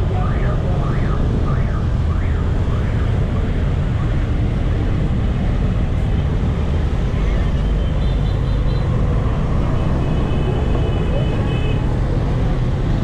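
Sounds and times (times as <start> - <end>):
motorbike and car engines passing: 0.0 - 13.0.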